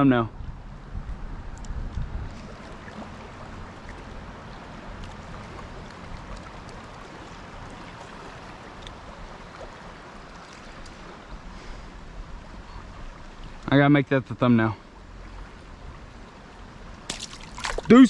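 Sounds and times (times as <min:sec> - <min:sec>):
river water flowing: 0:01.3 - 0:18.0.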